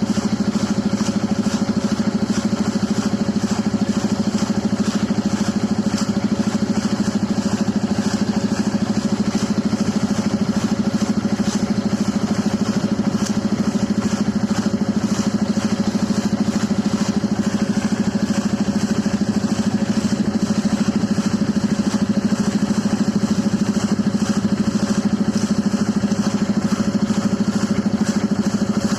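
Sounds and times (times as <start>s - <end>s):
air compressor engine pulsing: 0.0s - 28.9s.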